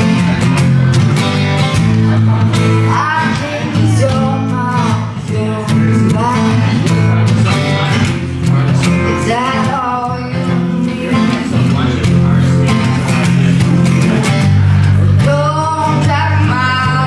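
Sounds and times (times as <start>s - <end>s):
acoustic guitars playing: 0.0s - 17.0s
person singing: 1.8s - 17.0s.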